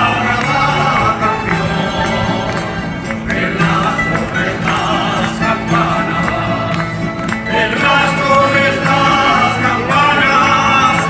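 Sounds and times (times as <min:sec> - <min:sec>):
person singing: 0:00.0 - 0:11.0
plucked string band playing: 0:00.0 - 0:11.0.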